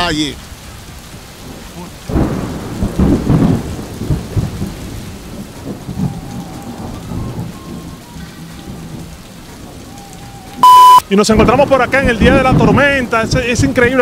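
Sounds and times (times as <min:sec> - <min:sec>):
thunder crack and rumble: 0:00.0 - 0:10.2, 0:11.2 - 0:14.0
steady rain: 0:00.0 - 0:14.0.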